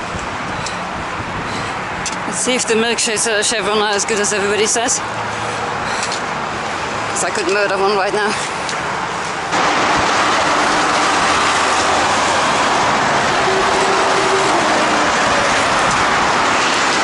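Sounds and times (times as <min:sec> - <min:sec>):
fast freeway traffic: 0:00.0 - 0:17.0.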